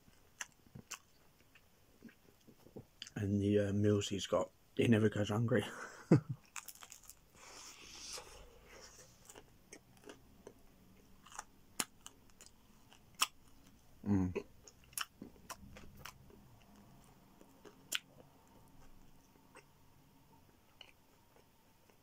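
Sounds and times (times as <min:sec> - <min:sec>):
person chewing food: 0:00.0 - 0:03.1, 0:06.4 - 0:19.8, 0:20.6 - 0:22.0.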